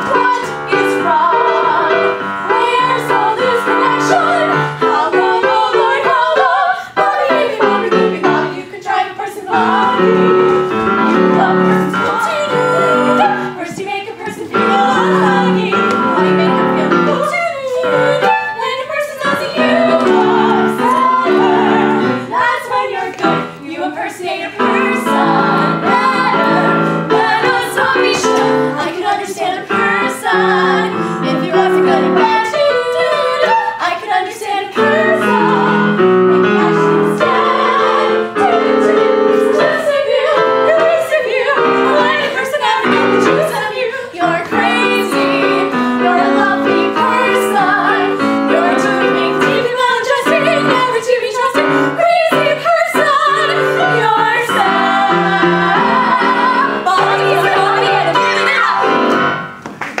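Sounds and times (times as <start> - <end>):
women singing in harmony: 0.0 - 59.5
piano: 0.0 - 60.0.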